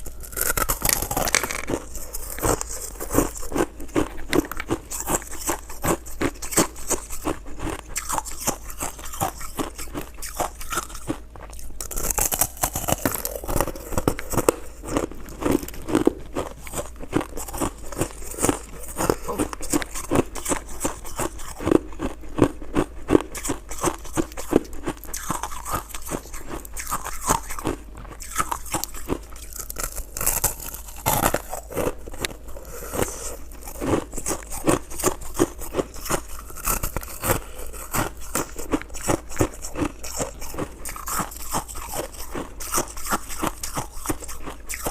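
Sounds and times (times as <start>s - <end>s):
crunching and chewing shaved ice: 0.0s - 44.9s.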